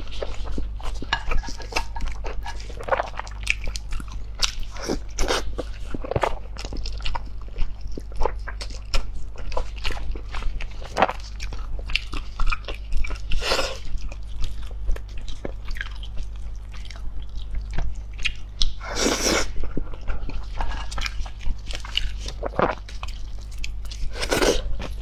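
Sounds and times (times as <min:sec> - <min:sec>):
person chewing food: 0:00.0 - 0:25.0
steady low hum: 0:00.0 - 0:25.0.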